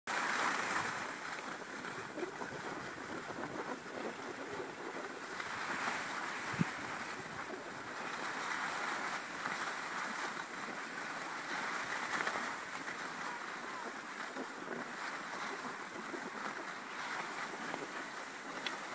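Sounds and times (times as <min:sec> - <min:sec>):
skis hissing over snow: 0:00.1 - 0:18.9
wind on microphone: 0:00.1 - 0:18.9.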